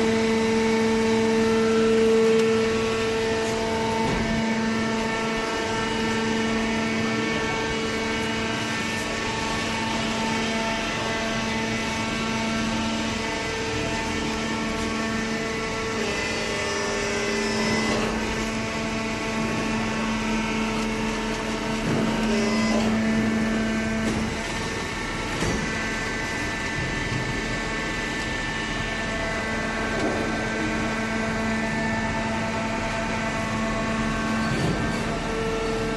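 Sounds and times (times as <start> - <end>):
hydraulic baler humming: 0.0 - 35.9.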